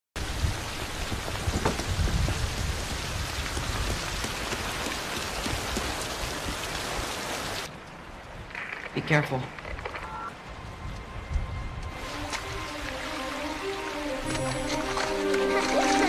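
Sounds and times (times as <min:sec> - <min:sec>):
heavy rain: 0:00.2 - 0:16.0.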